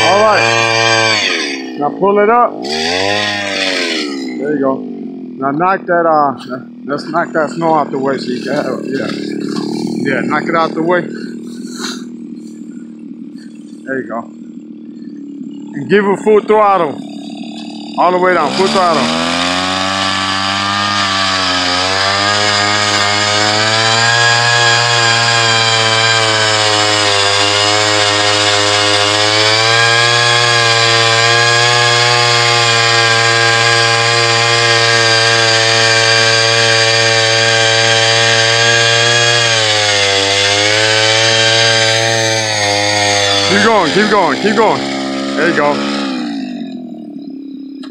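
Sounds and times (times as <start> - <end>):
ice auger engine drilling: 0.0 - 47.9.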